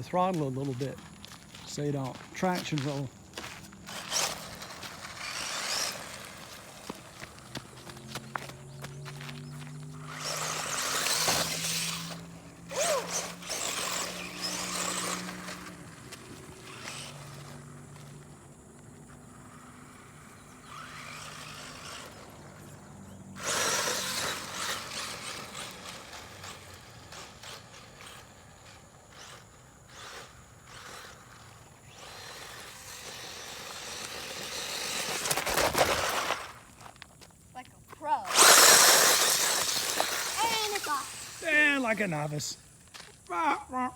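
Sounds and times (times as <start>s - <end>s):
tyres scraping over gravel: 0.0s - 43.4s
electric motor whining: 1.4s - 36.7s, 38.1s - 42.6s.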